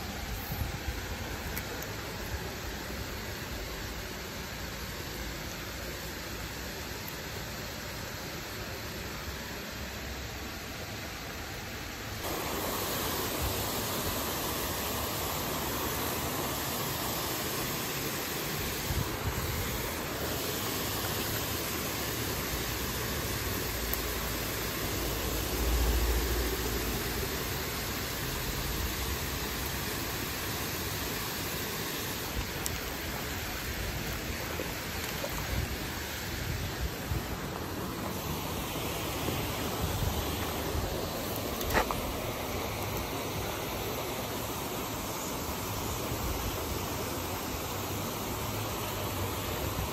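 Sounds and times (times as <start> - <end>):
water rushing through spillway: 0.0 - 49.9.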